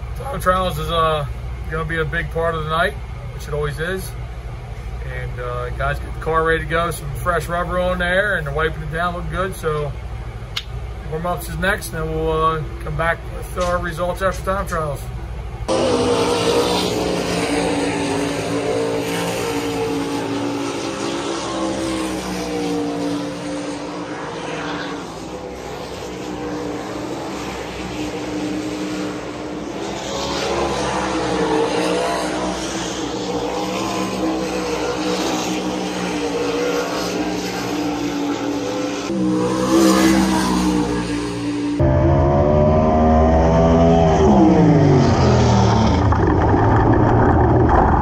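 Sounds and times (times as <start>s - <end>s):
racing car engines droning: 0.0s - 48.0s.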